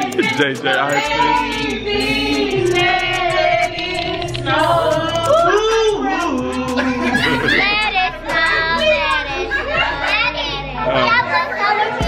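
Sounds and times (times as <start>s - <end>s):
backing music track: 0.0s - 12.0s
voices singing together: 0.0s - 12.0s.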